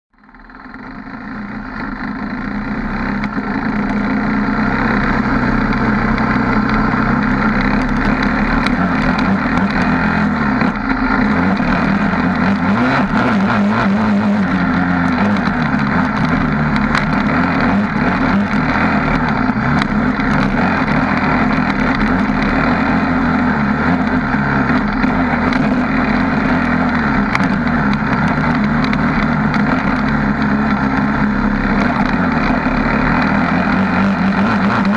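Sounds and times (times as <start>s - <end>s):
quad engine running: 0.1s - 34.9s.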